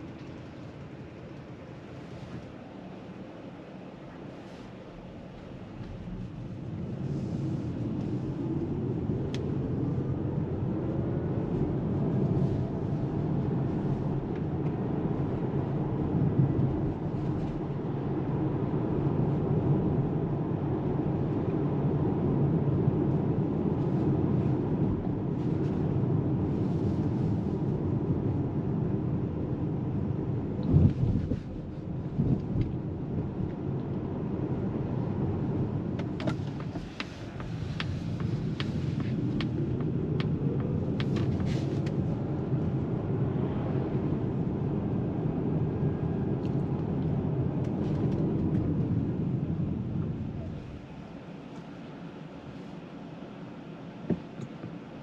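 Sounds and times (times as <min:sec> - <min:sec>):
road and tyre rumble: 0:00.0 - 0:55.0.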